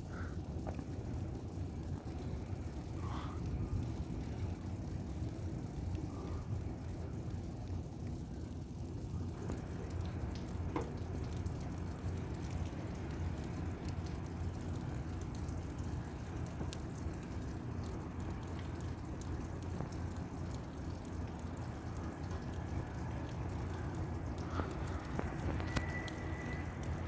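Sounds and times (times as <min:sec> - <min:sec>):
rain falling: 0:00.0 - 0:27.0
drops ticking nearby: 0:00.1 - 0:27.0.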